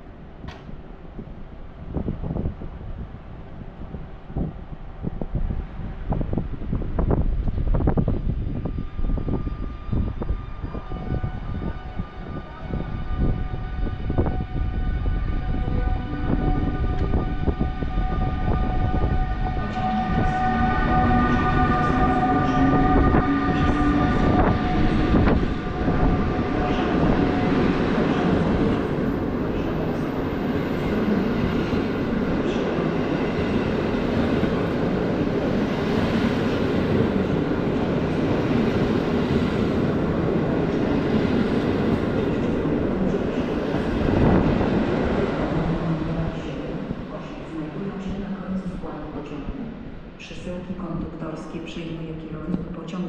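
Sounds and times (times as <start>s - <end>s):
train rumbling past: 0.0s - 52.8s.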